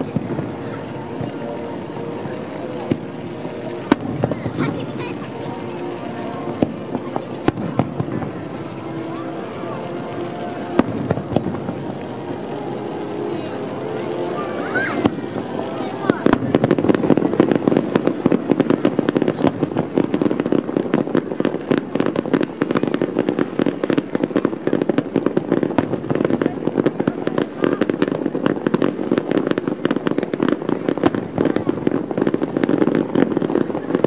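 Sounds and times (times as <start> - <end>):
firework bangs and crackles: 0.0 - 34.0.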